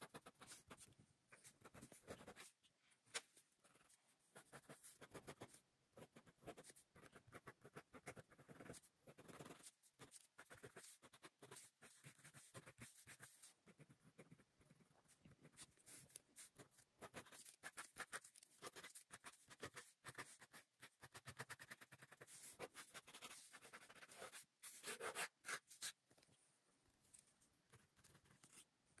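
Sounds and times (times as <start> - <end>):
pen scratching on paper: 0.0 - 2.6, 3.6 - 26.0, 27.7 - 28.6.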